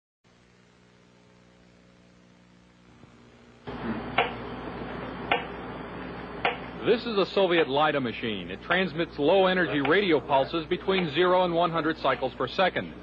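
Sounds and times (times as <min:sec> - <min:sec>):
faint electrical hum: 0:00.3 - 0:13.0
steady hiss: 0:00.3 - 0:13.0.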